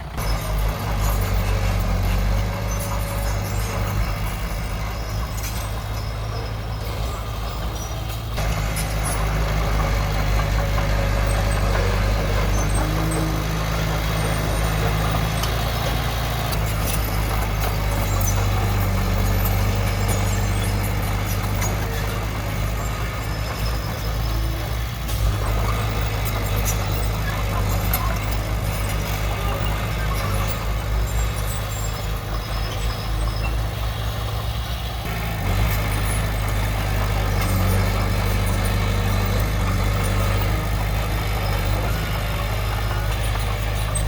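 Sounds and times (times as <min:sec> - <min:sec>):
heavy machinery diesel engine: 0:00.0 - 0:44.0.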